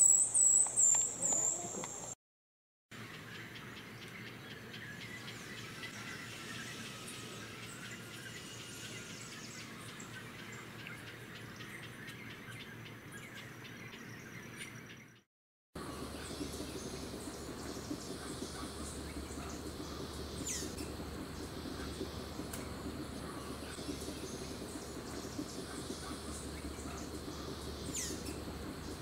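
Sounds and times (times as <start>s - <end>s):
birds chirping and calling: 0.0s - 2.1s, 3.0s - 15.2s, 15.8s - 29.0s
outdoor ambience: 0.0s - 2.2s, 2.9s - 15.2s, 15.8s - 29.0s.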